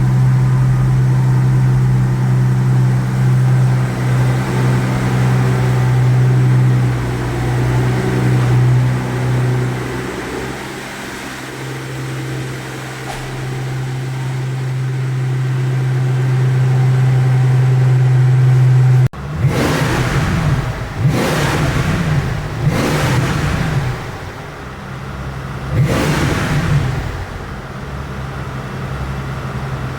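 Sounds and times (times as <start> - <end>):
car engine idling: 0.0 - 29.9
car engine revving: 0.0 - 29.9.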